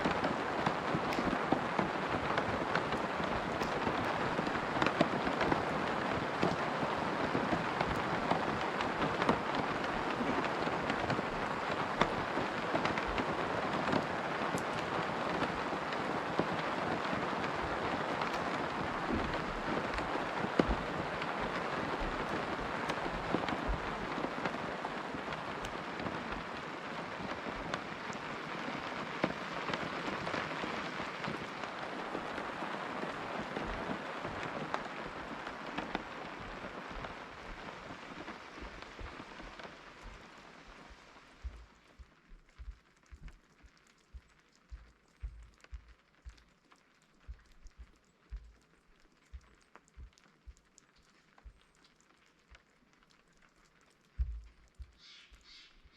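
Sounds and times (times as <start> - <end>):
rain pattering on a tent: 0.0 - 55.9.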